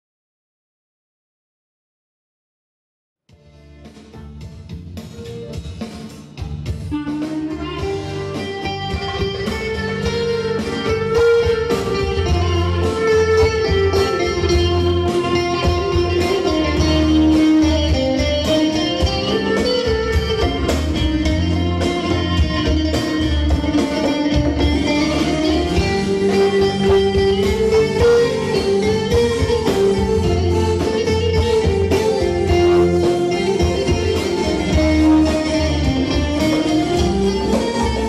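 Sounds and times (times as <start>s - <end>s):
bass: 3.3s - 38.0s
keyboard: 3.3s - 38.0s
conga and hand drum: 3.8s - 38.0s
plucked electric lute melody: 6.6s - 38.0s.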